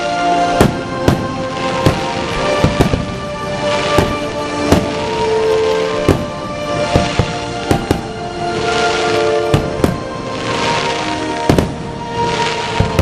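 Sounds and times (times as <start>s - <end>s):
crackling hiss of fireworks: 0.0s - 13.0s
fireworks bangs: 0.0s - 13.0s
music: 0.0s - 13.0s.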